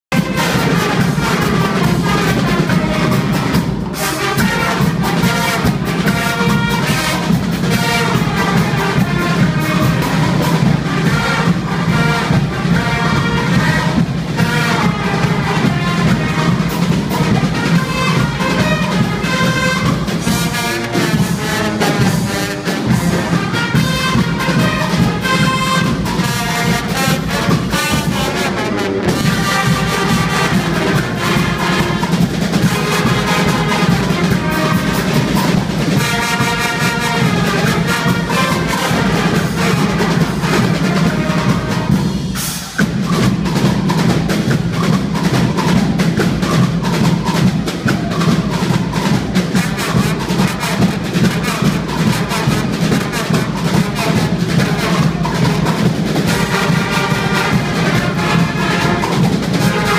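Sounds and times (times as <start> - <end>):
steady drum beat: 0.0 - 59.9
trumpets and saxophones blaring: 0.0 - 59.9.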